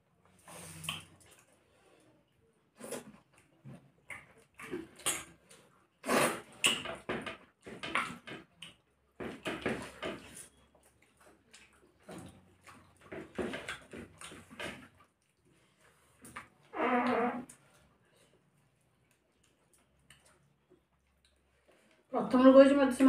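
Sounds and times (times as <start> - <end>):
wet chewing and lip-smacking: 2.4 - 16.6, 17.5 - 22.0.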